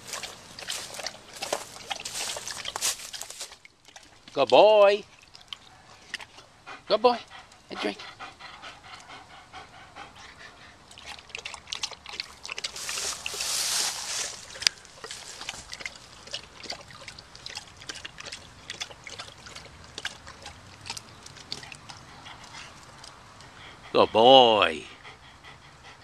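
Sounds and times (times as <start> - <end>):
dog lapping water: 0.0 - 24.4.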